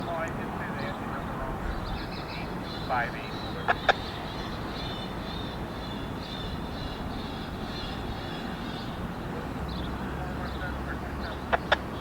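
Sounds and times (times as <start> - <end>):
diesel locomotives rumbling: 0.0 - 12.0.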